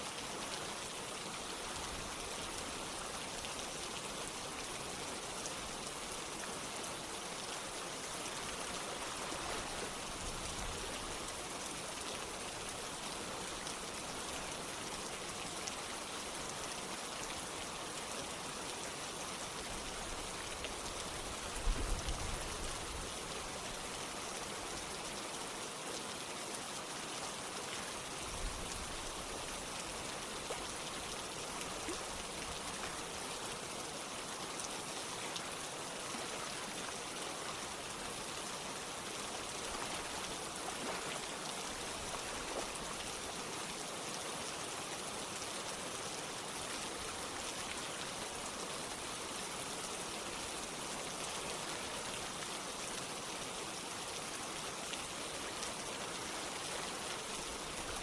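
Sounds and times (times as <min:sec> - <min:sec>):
rain falling: 0:00.0 - 0:58.0
running water: 0:00.0 - 0:58.0.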